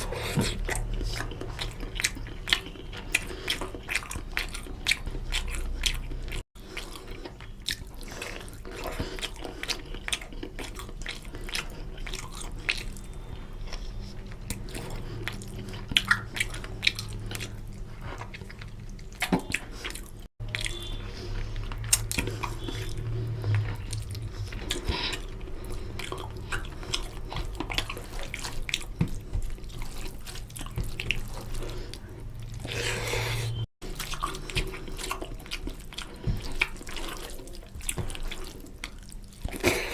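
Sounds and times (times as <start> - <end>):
wet chewing sounds: 0.0 - 39.9.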